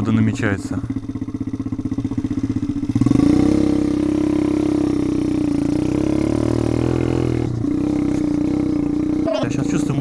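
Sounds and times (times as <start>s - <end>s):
pit bike engine revving: 0.0s - 10.0s.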